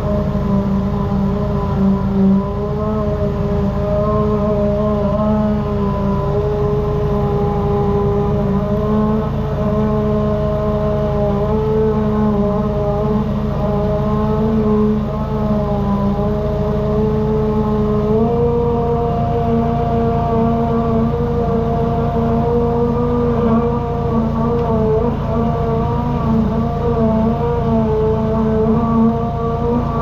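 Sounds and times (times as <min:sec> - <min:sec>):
drain jetter engine running: 0:00.0 - 0:30.0.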